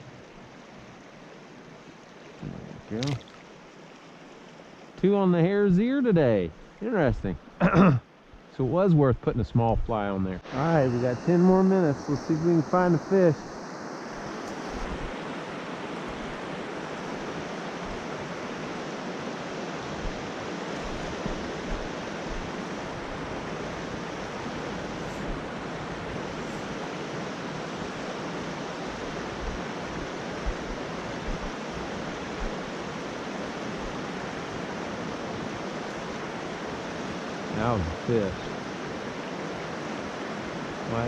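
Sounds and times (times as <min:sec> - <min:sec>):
stream flowing: 0:00.0 - 0:41.0.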